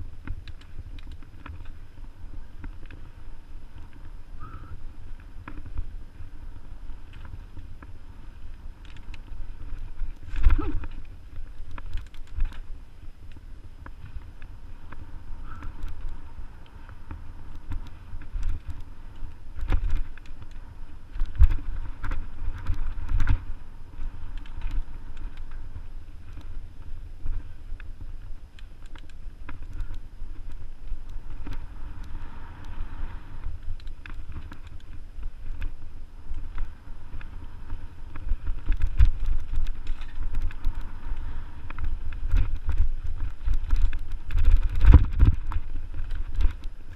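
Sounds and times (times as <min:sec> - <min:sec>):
bike rattling and clicking: 0:00.0 - 0:46.9
wind buffeting: 0:00.0 - 0:46.9.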